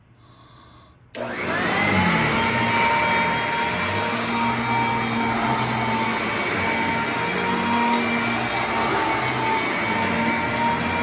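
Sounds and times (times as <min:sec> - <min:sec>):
upright vacuum motor whining: 0:01.2 - 0:11.0.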